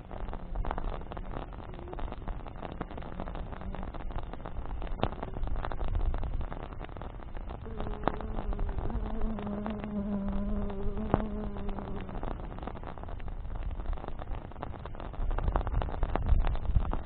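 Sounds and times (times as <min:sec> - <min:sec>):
buzzing hum: 0:00.0 - 0:15.7
campfire crackling and popping: 0:00.0 - 0:17.0
low fire rumble: 0:00.0 - 0:17.0.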